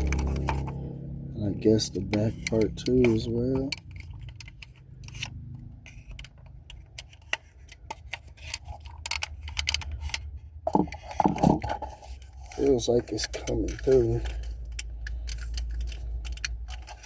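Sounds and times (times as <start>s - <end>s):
screwdriver scraping plastic: 0.0s - 0.8s, 2.0s - 17.0s.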